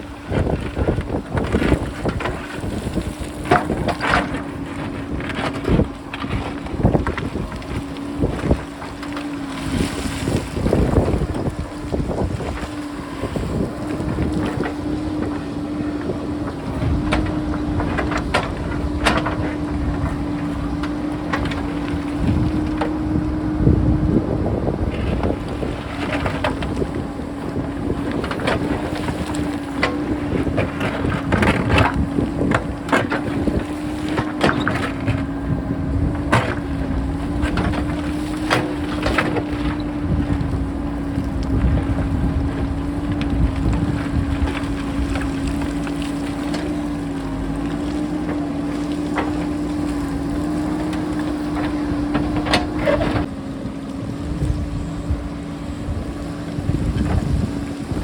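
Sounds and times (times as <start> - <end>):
diesel engine under load: 0.0 - 58.0
wind buffeting microphone: 0.0 - 58.0
rocks clattering and knocking: 0.2 - 23.6, 24.8 - 53.3.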